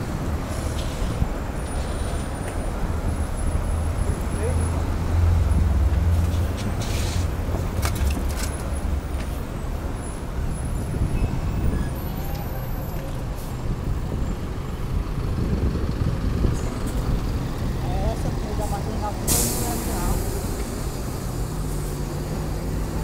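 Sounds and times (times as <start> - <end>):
bus and cars passing: 0.0 - 23.0.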